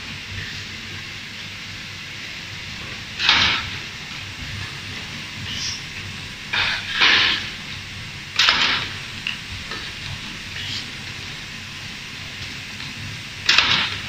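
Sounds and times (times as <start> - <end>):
low machine noise: 0.0 - 14.0.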